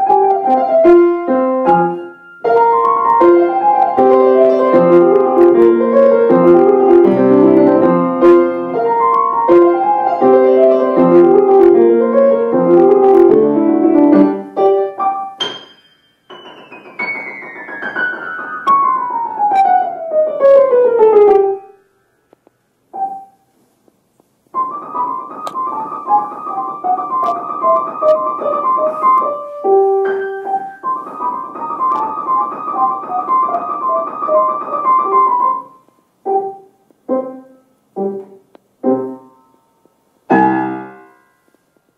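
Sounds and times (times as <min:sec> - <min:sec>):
grand piano playing: 0:00.0 - 0:21.8, 0:22.9 - 0:23.4, 0:24.6 - 0:39.5, 0:40.2 - 0:41.6.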